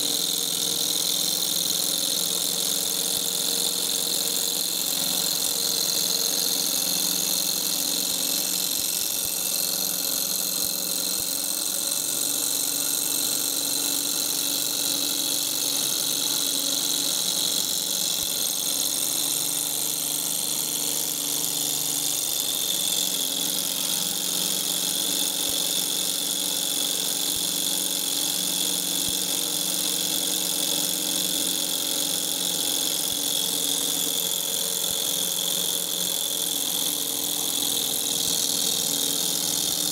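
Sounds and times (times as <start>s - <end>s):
small engine humming: 0.0s - 39.9s.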